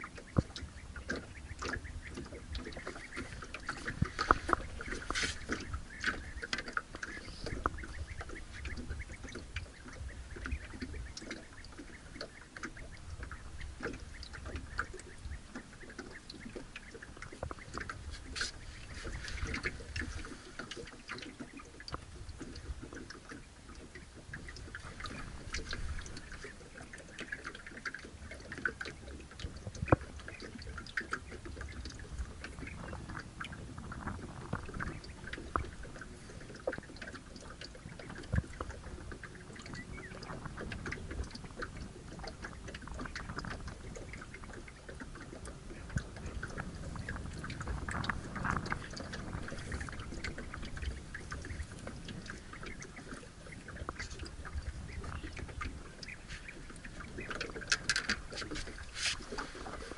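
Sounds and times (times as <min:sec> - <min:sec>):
faint ticks and clicks: 0:00.0 - 0:59.9
waves lapping against boat hull: 0:00.0 - 0:59.9.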